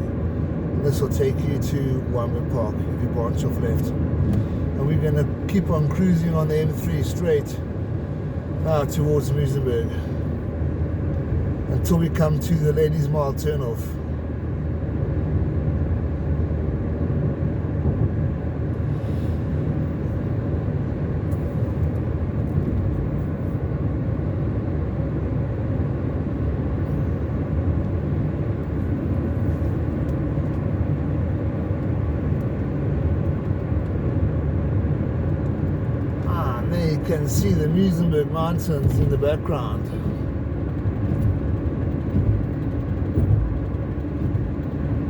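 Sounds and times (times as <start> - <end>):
car driving on highway: 0.0 - 45.0.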